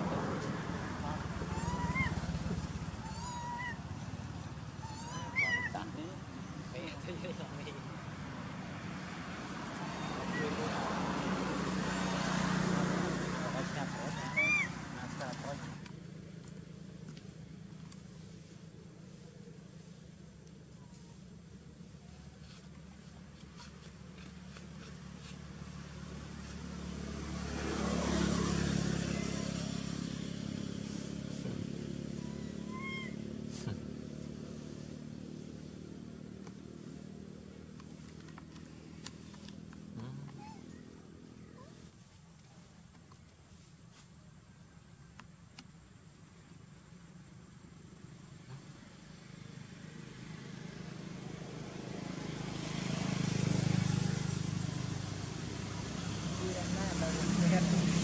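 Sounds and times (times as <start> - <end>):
vehicle engine passing by: 0.0 - 42.8, 47.8 - 58.0.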